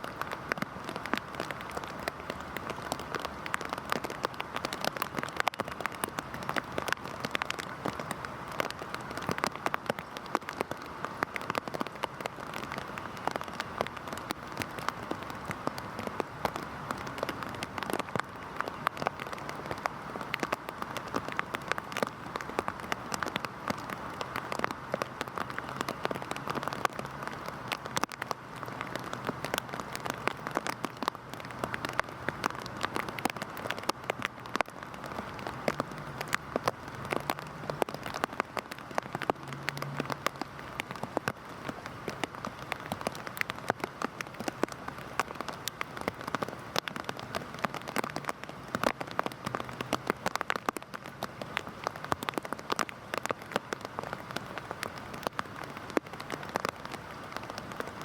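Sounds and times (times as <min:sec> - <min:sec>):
heavy rain pattering: 0:00.0 - 0:58.0.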